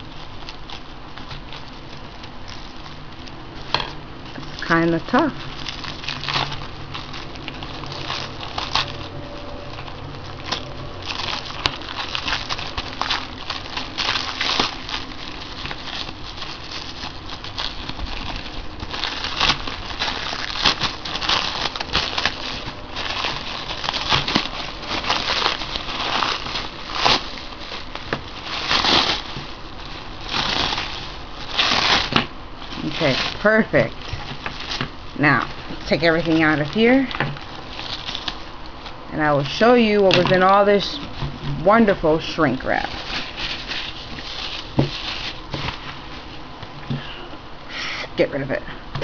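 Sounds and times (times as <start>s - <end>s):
plastic shrink wrap crinkling: 0.0s - 47.3s.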